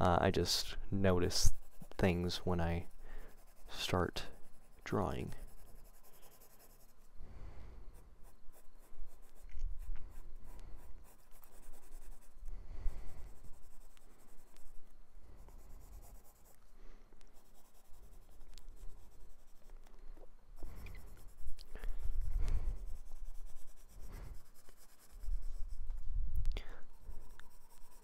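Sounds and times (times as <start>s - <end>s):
pencil scratching on paper: 1.1s - 7.1s, 7.9s - 14.8s, 15.4s - 16.6s, 17.3s - 19.8s, 20.6s - 26.0s, 26.9s - 28.0s.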